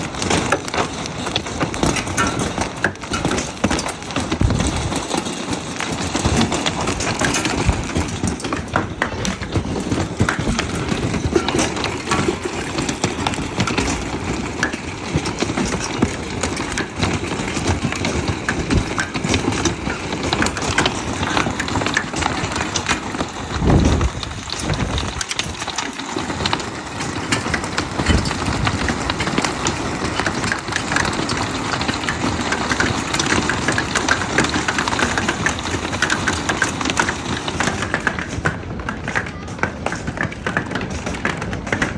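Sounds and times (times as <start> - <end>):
hailstones pelting down: 0.0 - 41.9.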